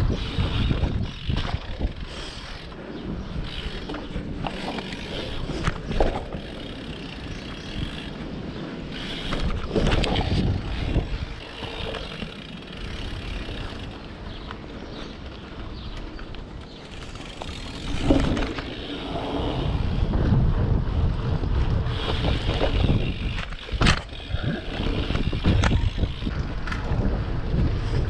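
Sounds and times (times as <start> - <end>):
wind on microphone: 0.0 - 14.4, 17.0 - 28.0
bike tyre and hub noise: 0.0 - 28.0.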